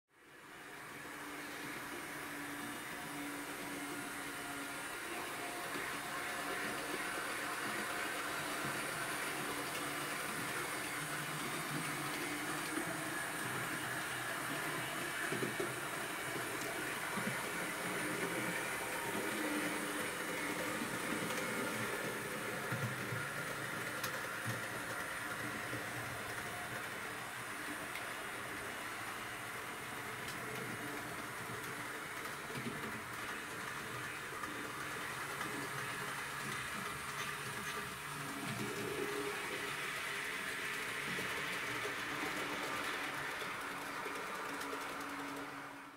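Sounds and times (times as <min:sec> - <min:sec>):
wheels rolling on rails: 0:01.5 - 0:45.9.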